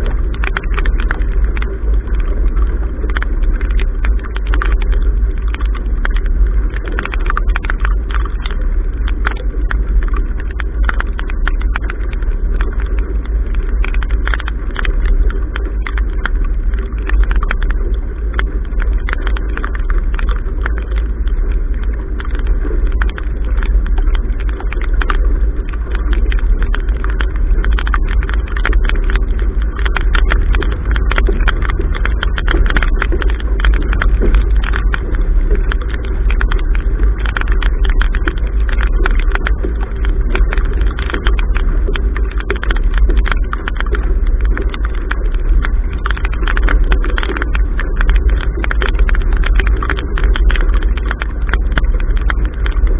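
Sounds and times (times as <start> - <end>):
hull washing through water: 0.0 - 52.9
water drops ticking on camera: 0.0 - 52.9.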